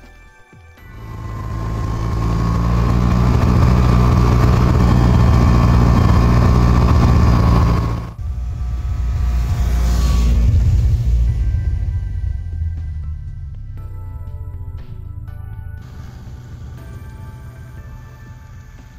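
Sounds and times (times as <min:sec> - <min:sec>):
snowmobile engine running: 0:00.9 - 0:18.9
thin steady whine: 0:00.9 - 0:18.9.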